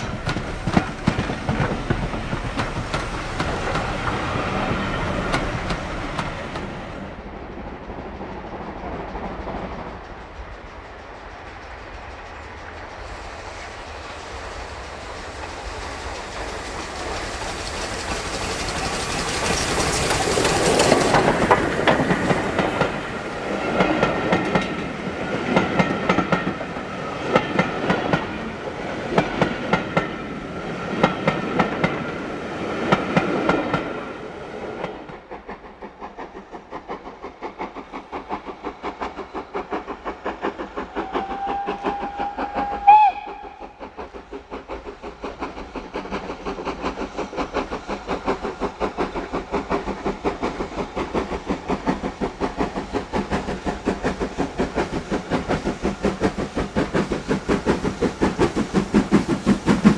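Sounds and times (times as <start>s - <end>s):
distant steam locomotive pulsing: 0.0s - 59.9s
steam train passing: 0.0s - 59.9s.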